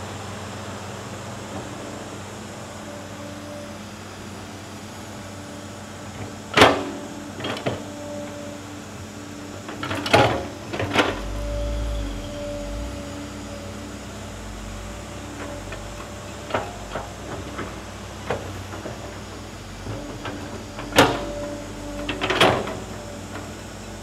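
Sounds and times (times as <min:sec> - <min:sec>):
excavator diesel engine running: 0:00.0 - 0:24.0
steady hydraulic hum: 0:00.0 - 0:24.0.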